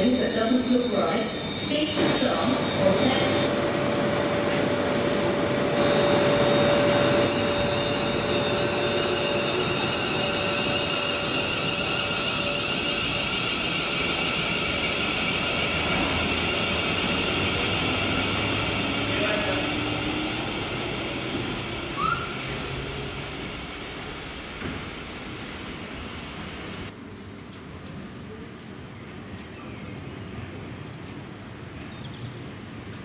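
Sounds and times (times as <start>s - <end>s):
electric train traction whine: 0.0s - 26.9s
train rushing: 0.0s - 26.9s.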